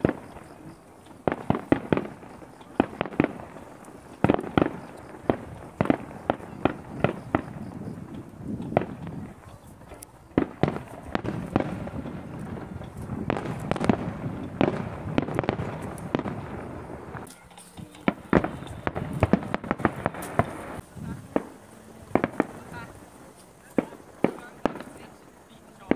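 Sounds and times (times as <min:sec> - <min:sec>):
firework shells bursting: 0:00.0 - 0:25.9.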